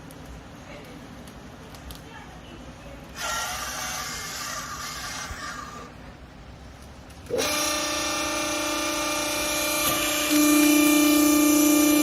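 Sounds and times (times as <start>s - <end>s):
electric motor and hydraulic pump hum: 0.0s - 12.0s.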